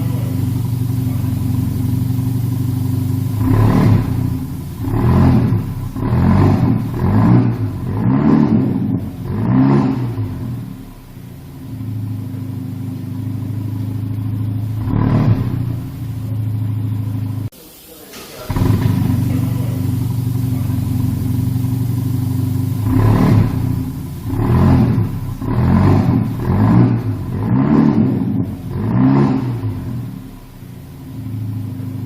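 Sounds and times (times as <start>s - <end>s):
pickup engine idling and revving: 0.0s - 17.5s, 18.5s - 32.0s.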